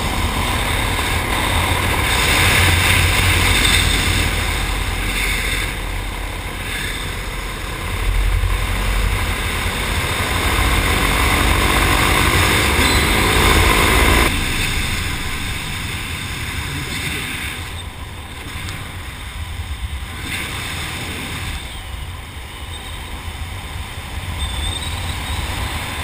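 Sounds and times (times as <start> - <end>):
paramotor engine and propeller: 0.0 - 26.0
wind rush over microphone: 0.0 - 26.0.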